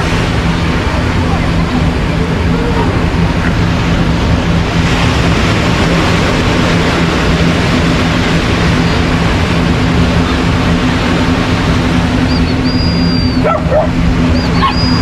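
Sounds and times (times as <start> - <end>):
low steady drone: 0.0 - 15.0
surf rushing: 0.0 - 15.0
wind: 0.0 - 15.0.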